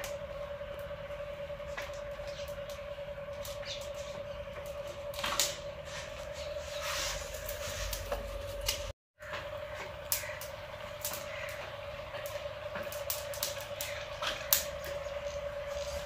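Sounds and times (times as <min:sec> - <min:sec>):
steady hum: 0:00.0 - 0:16.0
wood fire crackling: 0:00.0 - 0:16.0.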